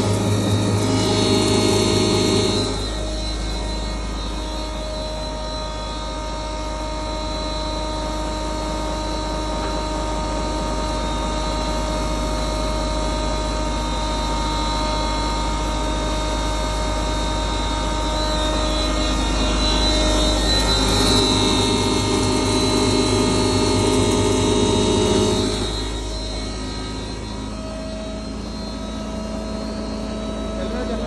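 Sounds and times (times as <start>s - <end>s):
grinding machine humming and whining: 0.0s - 31.0s.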